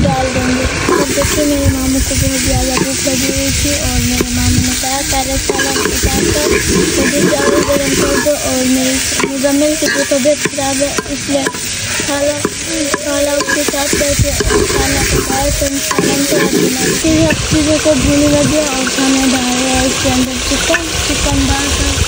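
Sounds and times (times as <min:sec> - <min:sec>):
frying sizzle: 0:00.0 - 0:22.0
steel ladle scraping metal pot: 0:00.6 - 0:19.2, 0:20.4 - 0:21.1.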